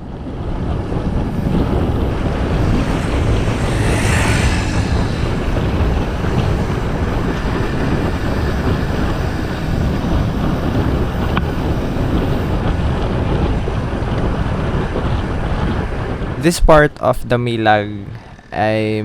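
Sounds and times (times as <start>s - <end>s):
wind blowing over microphone: 0.0s - 19.0s.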